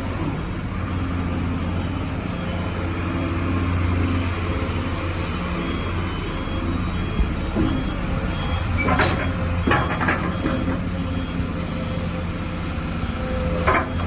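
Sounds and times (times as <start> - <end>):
excavator diesel engine humming: 0.0 - 14.0.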